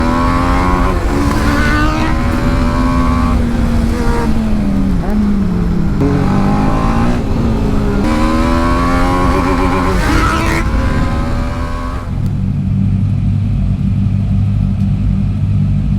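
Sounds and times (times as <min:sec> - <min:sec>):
wind rush: 0:00.0 - 0:12.9
motorcycle engine revving: 0:00.0 - 0:13.0.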